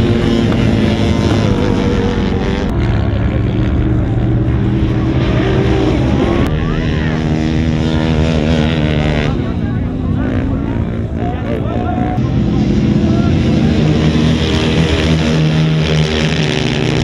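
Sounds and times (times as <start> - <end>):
off-road truck driving past: 0.0 - 17.0
quad engine revving: 0.0 - 17.0.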